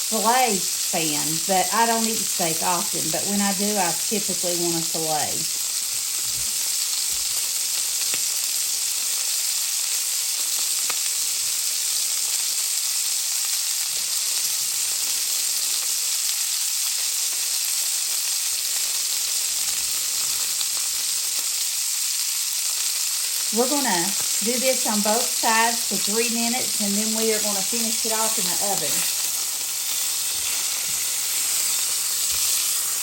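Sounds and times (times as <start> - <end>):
steaks sizzling in a skillet: 0.0 - 33.0.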